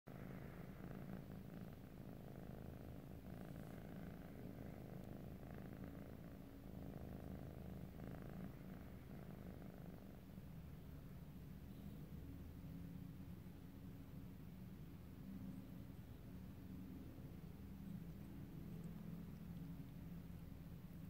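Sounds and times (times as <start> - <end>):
cat purring: 0.1 - 21.0.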